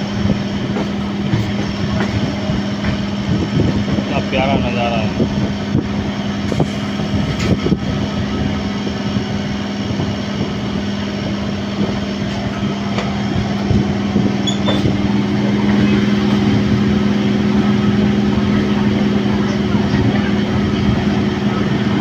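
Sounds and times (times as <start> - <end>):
passing train: 0.0 - 22.0
train motor hum: 0.0 - 22.0
wheel and track rumble: 0.0 - 22.0.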